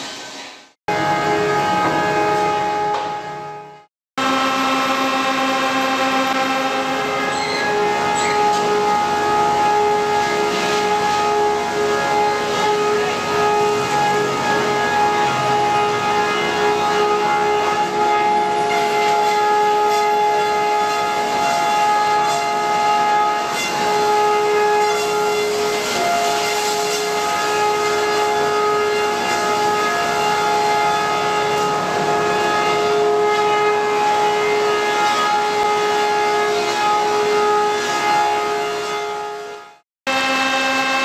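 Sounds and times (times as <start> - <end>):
sawmill machinery whining: 0.9 - 39.4, 40.1 - 41.0.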